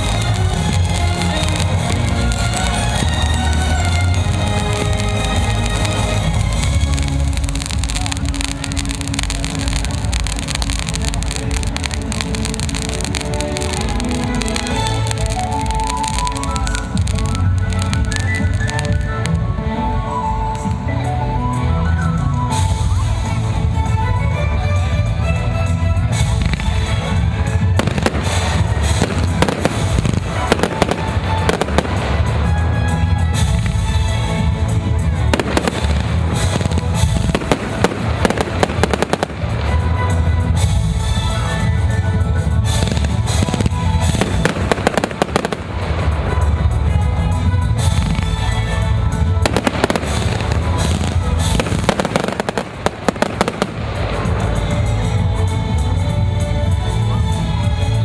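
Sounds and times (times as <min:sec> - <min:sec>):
background music: 0:00.0 - 0:58.0
fireworks bangs and crackles: 0:00.0 - 0:58.0.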